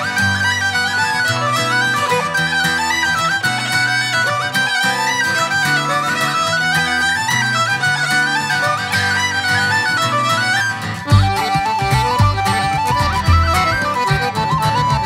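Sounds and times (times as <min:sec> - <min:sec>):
fiddle melody: 0:00.0 - 0:15.0
strummed acoustic guitar: 0:00.0 - 0:15.0
tin whistle: 0:00.0 - 0:15.0.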